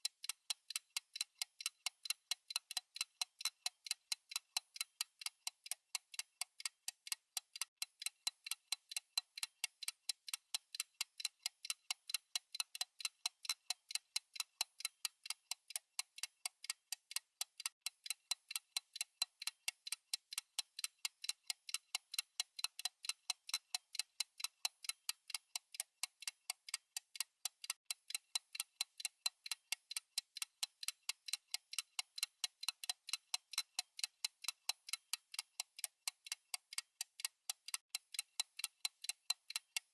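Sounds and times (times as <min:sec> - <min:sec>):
fast clock ticking: 0:00.0 - 0:39.9.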